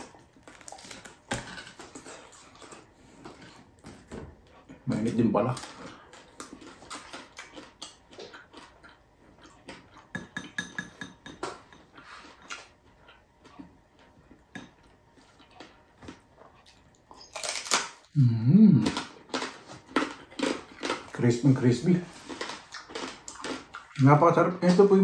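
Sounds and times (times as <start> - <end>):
chewing crispy food: 0.0 - 10.1, 11.4 - 25.0.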